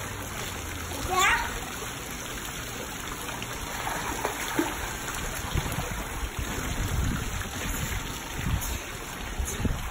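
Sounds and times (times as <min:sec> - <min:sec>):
pool water splashing: 0:00.0 - 0:09.9.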